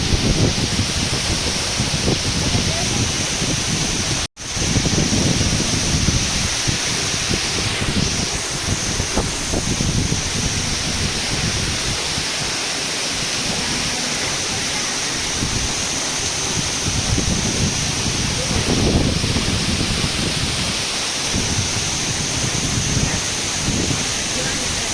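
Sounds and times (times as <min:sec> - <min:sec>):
falling water rushing: 0:00.0 - 0:24.9
wind buffeting microphone: 0:00.0 - 0:24.9.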